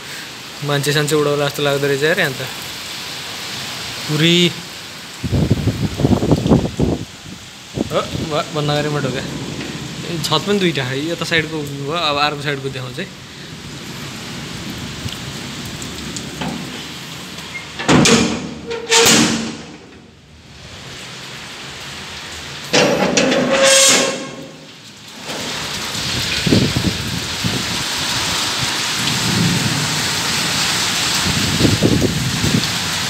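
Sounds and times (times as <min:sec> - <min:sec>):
heavy rain on a flat roof: 0:00.0 - 0:33.0.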